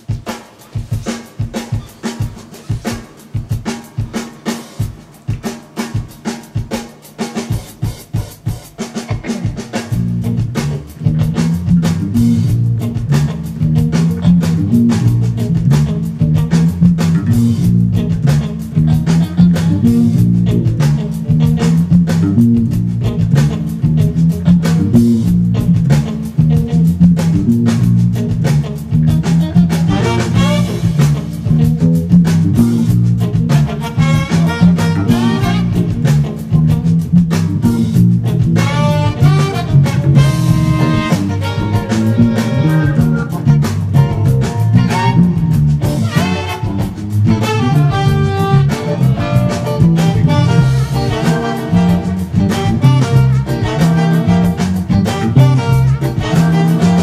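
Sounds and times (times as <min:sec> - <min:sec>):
drum groove: 0:00.0 - 0:57.0
funk band music: 0:00.0 - 0:57.0
syncopated electric bass line: 0:00.9 - 0:57.0.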